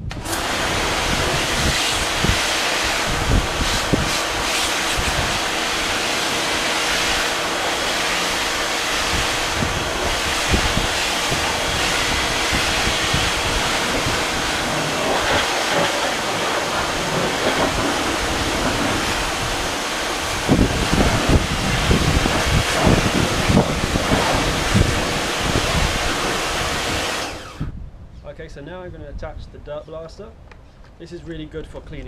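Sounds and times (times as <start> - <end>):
high-pressure spray hissing: 0.0 - 27.5
pressure washer pump humming: 0.0 - 27.7.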